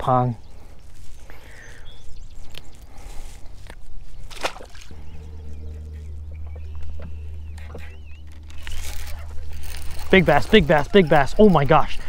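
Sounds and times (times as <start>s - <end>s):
steady low hum: 0.0s - 12.0s
water around a boat: 0.0s - 12.0s
wind: 0.0s - 12.0s.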